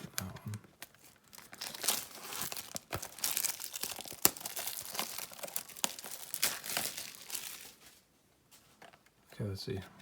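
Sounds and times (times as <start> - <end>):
plastic wrapping crinkling and tearing: 0.0 - 8.1.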